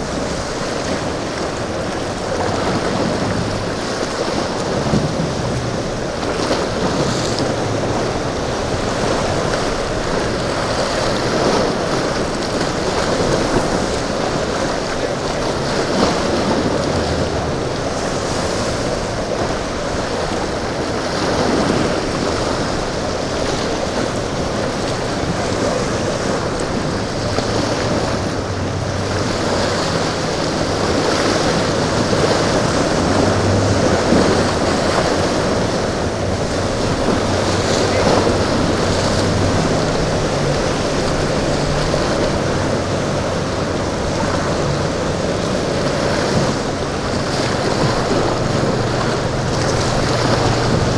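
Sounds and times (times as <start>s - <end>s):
faint boat engines humming: 0.0s - 50.9s
waves washing: 0.0s - 50.9s
wind buffeting microphone: 0.0s - 50.9s.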